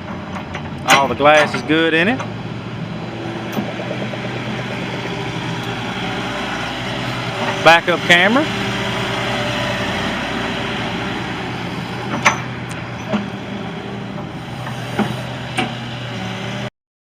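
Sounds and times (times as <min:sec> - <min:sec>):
excavator diesel engine running: 0:00.0 - 0:16.7.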